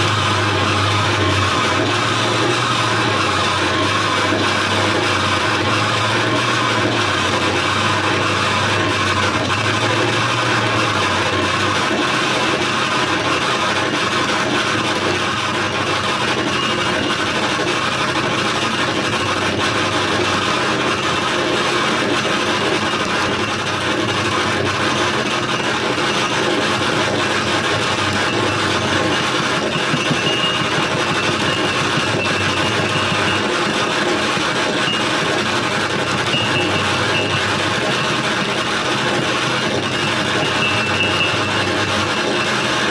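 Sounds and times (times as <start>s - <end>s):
harsh noise wall: 0.0s - 42.9s.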